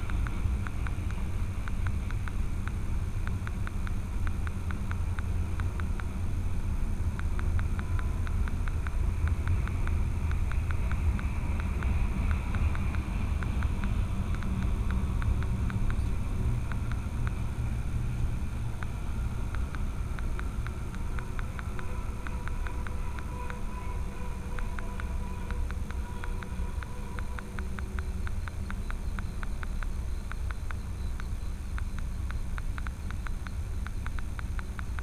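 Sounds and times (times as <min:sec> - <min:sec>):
freight train rumble: 0:00.0 - 0:35.0
light irregular clicks: 0:00.0 - 0:35.0.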